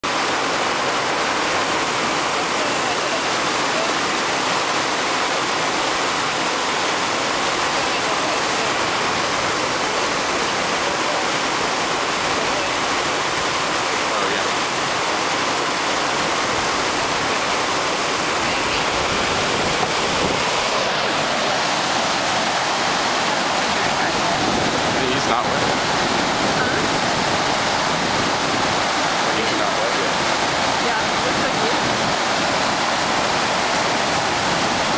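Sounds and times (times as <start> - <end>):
whitewater rushing: 0.0 - 34.9.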